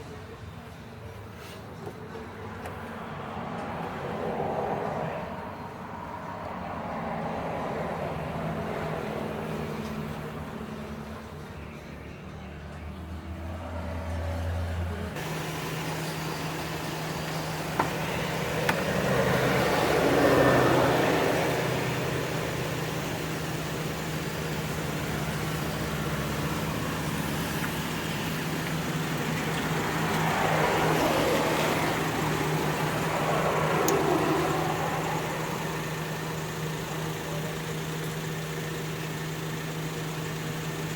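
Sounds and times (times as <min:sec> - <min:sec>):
traffic passing: 0:00.0 - 0:40.9
vehicle engine humming: 0:00.0 - 0:40.9.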